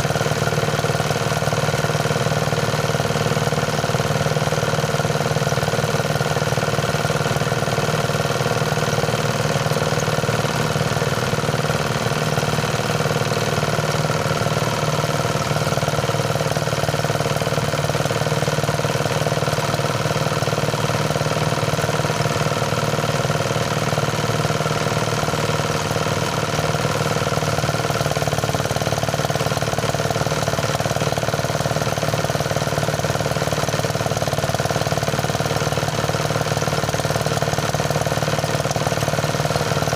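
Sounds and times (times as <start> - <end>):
rice thresher engine drone: 0.0 - 39.9.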